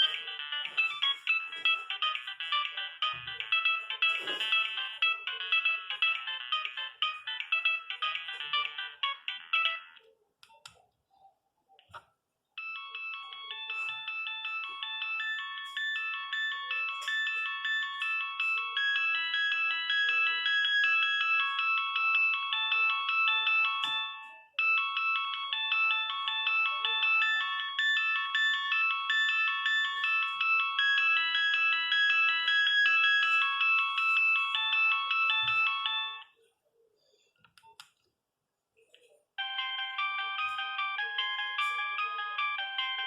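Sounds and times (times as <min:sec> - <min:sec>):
mobile phone ringtones: 0:00.0 - 0:10.1, 0:12.6 - 0:36.4, 0:39.4 - 0:43.0.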